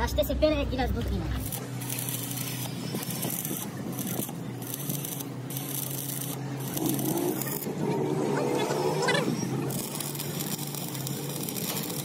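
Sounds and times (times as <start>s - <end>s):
low electrical hum: 0.0s - 12.0s
welding arc crackling and hissing: 1.0s - 12.0s.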